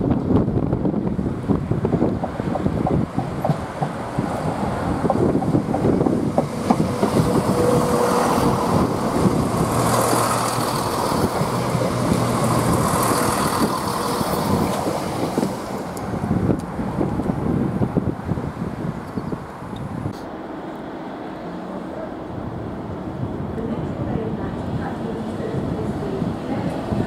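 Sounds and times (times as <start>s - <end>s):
wind buffeting microphone: 0.0s - 20.3s, 22.0s - 27.0s
diesel train engines humming: 0.0s - 27.0s
wheel-on-rail rumble: 0.0s - 27.0s.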